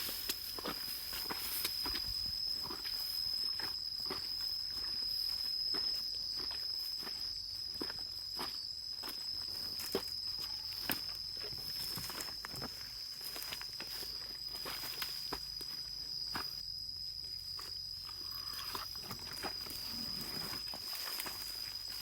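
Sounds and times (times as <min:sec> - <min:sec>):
footsteps on forest ground: 0:00.0 - 0:22.0
high-pitched insect call: 0:00.0 - 0:22.0.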